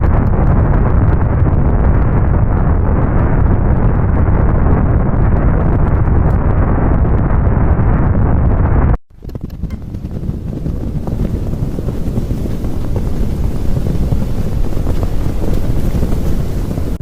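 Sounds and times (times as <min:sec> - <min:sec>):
deep rumbling roar: 0:00.0 - 0:09.0, 0:09.6 - 0:17.0.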